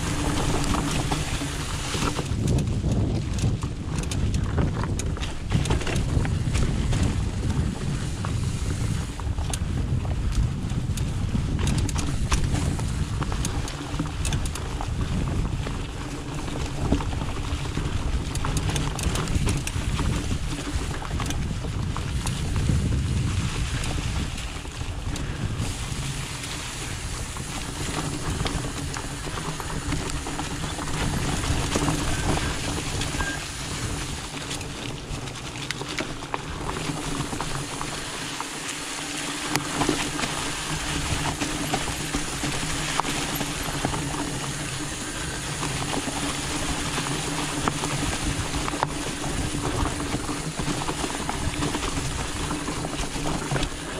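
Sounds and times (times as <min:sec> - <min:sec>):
bike clicks and rattles: 0:00.0 - 0:53.9
bike tyres rumbling: 0:00.0 - 0:53.9
wind buffeting microphone: 0:00.0 - 0:53.9.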